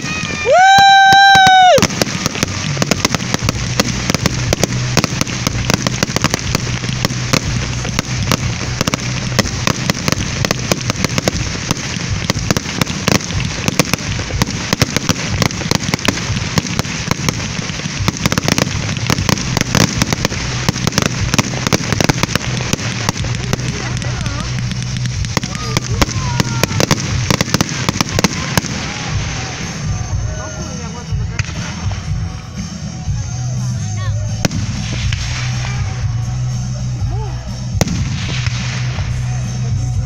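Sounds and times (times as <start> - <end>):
fireworks crackling and popping: 0.0 - 40.0
fireworks fountain hiss: 0.0 - 40.0.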